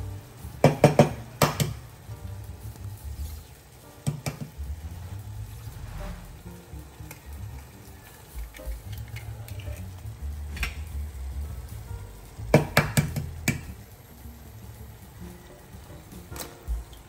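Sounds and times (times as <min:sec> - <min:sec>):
vegetables sizzling in a frying pan: 0:00.0 - 0:17.0.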